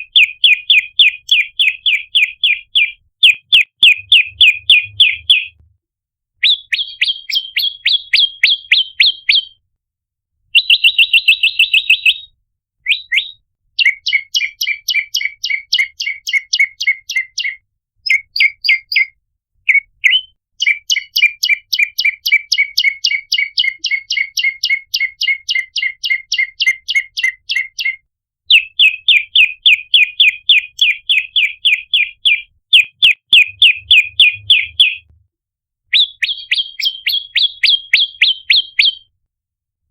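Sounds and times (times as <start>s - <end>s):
bird chirping rapidly: 0.0s - 5.6s, 6.4s - 9.6s, 10.6s - 12.3s, 12.9s - 35.1s, 35.9s - 39.1s.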